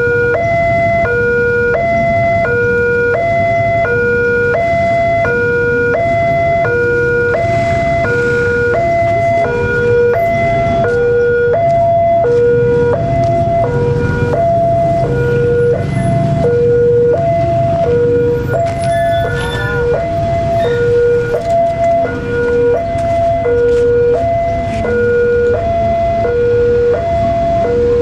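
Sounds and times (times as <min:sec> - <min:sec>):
two-tone crossing alarm: 0:00.0 - 0:28.0.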